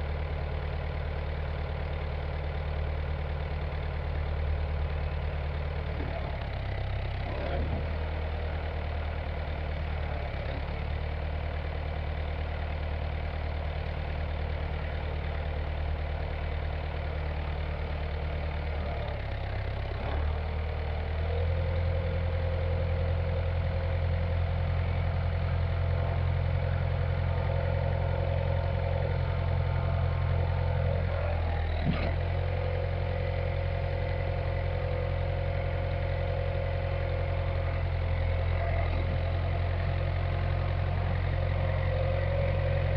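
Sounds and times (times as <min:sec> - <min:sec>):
backhoe engine idling: 0:00.0 - 0:42.9.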